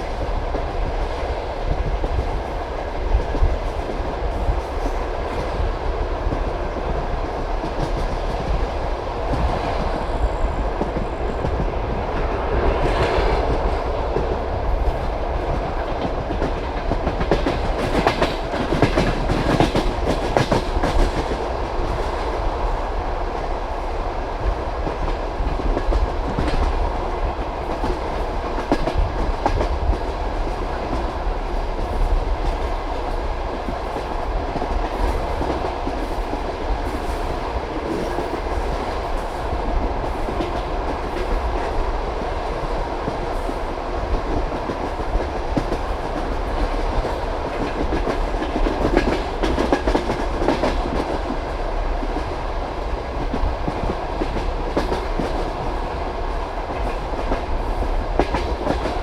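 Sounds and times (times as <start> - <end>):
train carriage rumbling on track: 0.0 - 59.0.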